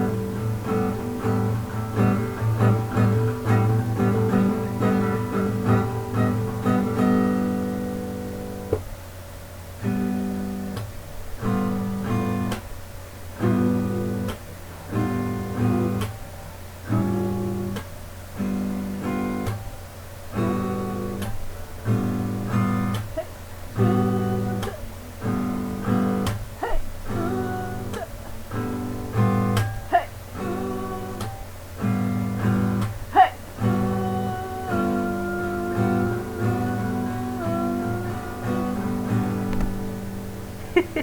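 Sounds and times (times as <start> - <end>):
acoustic guitar strumming chords: 0.0 - 9.0, 9.6 - 41.0.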